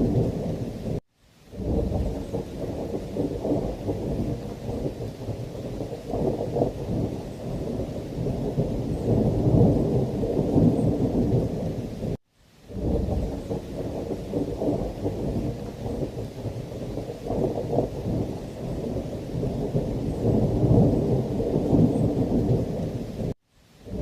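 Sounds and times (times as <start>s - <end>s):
rolling thunder: 0.0s - 1.0s, 1.6s - 24.0s
steady rain: 0.0s - 24.0s.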